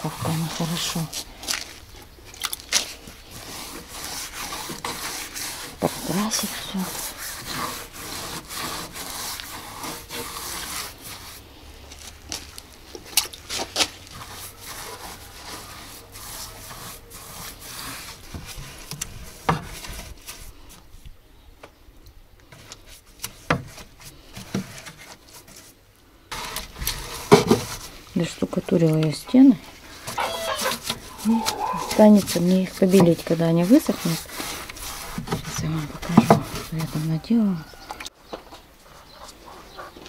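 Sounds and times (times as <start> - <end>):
brush scrubbing rough wood: 0.0 - 12.6, 13.4 - 20.9, 22.5 - 37.6.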